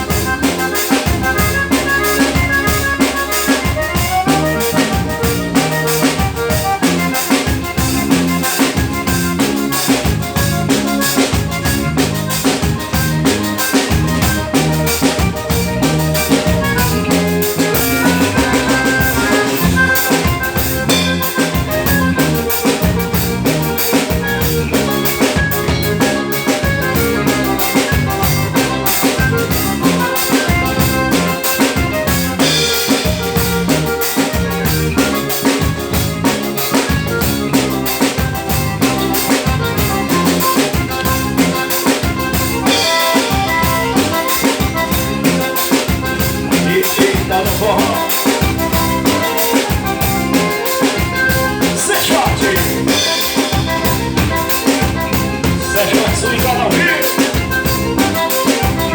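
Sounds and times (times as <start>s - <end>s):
drum kit steady beat: 0.0s - 58.9s
live band playing: 0.0s - 58.9s.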